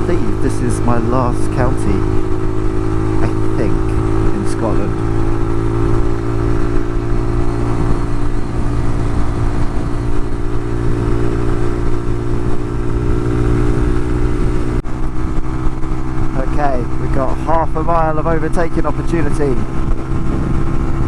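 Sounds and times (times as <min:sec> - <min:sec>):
motorcycle engine cruising: 0:00.0 - 0:21.0
wind and road rush: 0:00.0 - 0:21.0.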